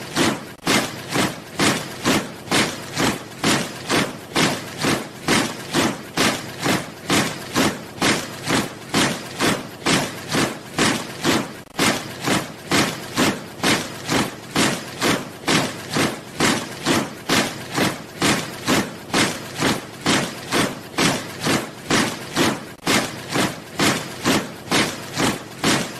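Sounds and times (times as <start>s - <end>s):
soldiers marching in step: 0.0s - 25.9s.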